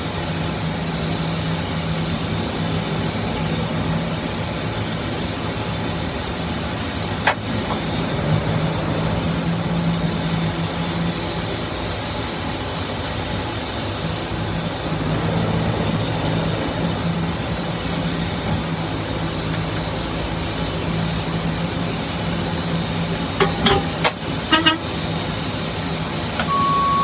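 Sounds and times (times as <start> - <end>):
engine running: 0.6 - 27.0.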